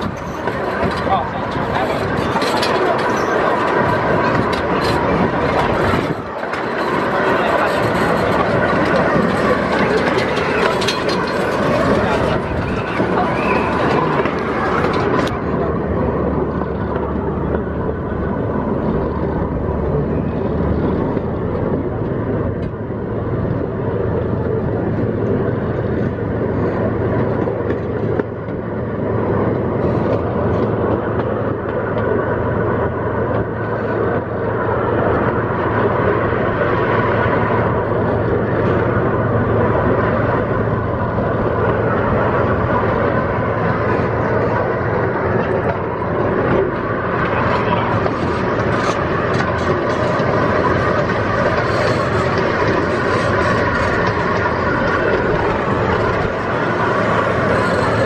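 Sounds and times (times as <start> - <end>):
miniature train running on rails: 0.0 - 58.0.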